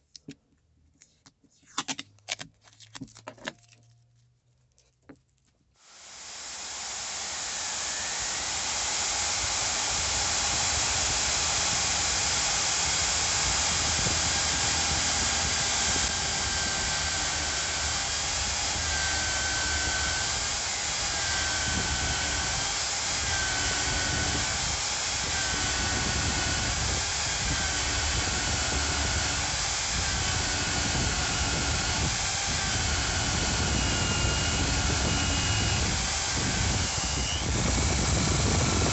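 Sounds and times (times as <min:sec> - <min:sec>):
electric drill boring into wood: 0:05.9 - 0:38.9.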